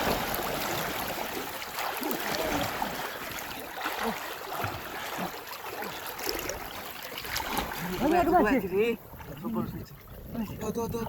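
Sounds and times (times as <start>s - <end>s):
river water splashing: 0.0s - 10.6s.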